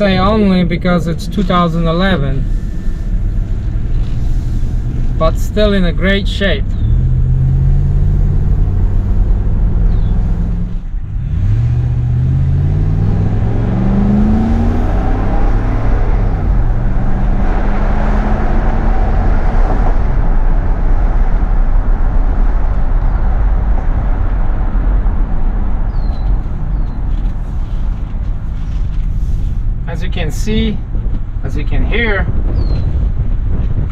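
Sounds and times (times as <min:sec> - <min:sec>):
truck engine accelerating: 0:00.0 - 0:30.0
tyre and wind noise: 0:02.2 - 0:33.9.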